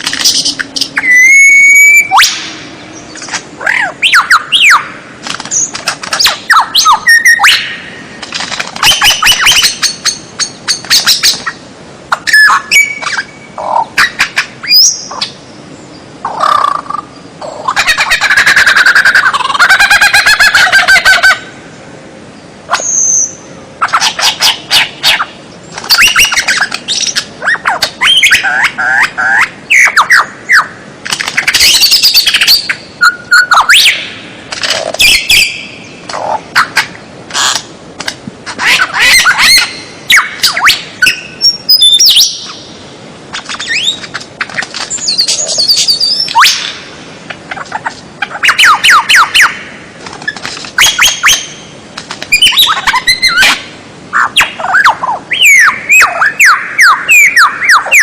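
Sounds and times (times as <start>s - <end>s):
loud varied bird song: 0.0s - 37.6s, 38.5s - 58.0s.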